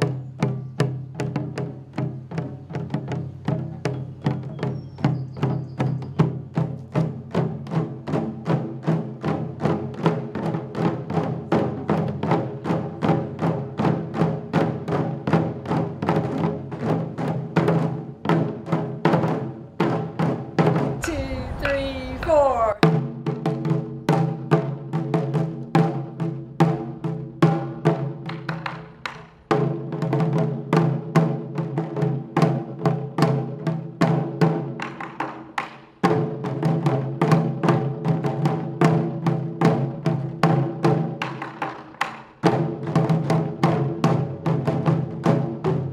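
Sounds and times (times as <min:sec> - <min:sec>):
taiko drums struck with sticks: 0:00.0 - 0:45.9.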